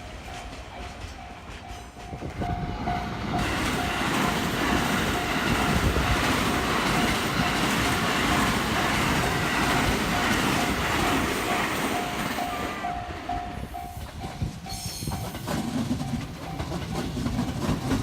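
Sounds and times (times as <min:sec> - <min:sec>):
crossing warning bell ringing: 0:00.0 - 0:18.0
train wheels clattering on rails: 0:00.0 - 0:18.0.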